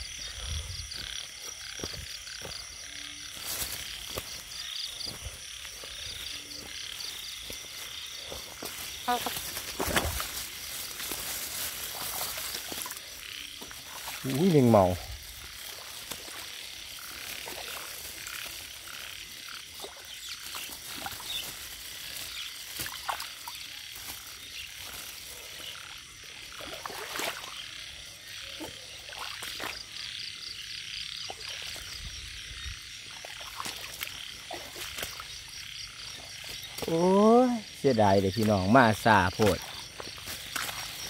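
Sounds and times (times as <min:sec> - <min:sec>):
frogs calling: 0:00.0 - 0:41.0.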